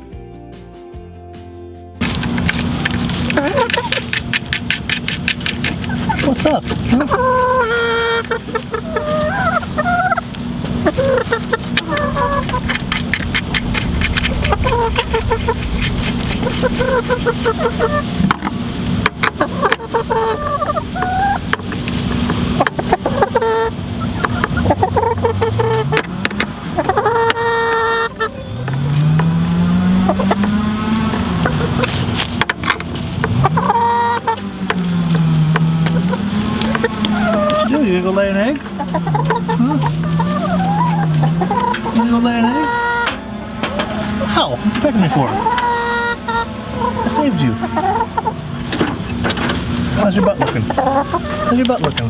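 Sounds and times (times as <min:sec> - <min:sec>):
chickens clucking: 0:02.0 - 0:52.0
hen calling: 0:02.0 - 0:52.0
steady low hum: 0:02.0 - 0:52.0.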